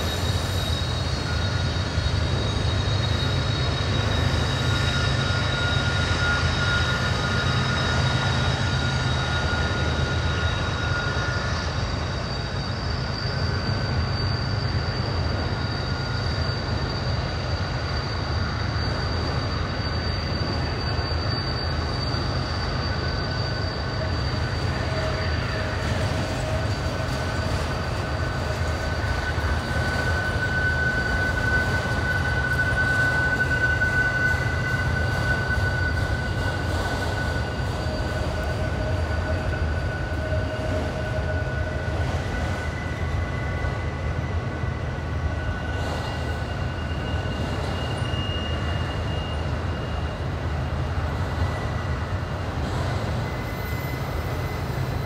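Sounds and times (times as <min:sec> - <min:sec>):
freight train rumbling: 0:00.0 - 0:55.0
wheel flange squeals: 0:00.0 - 0:55.0.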